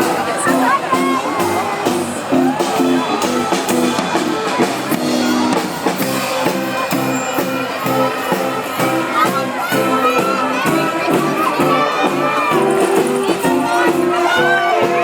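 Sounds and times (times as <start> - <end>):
children's voices: 0.0 - 15.0
crowd voices: 0.0 - 15.0
music with drum beat: 0.0 - 15.0.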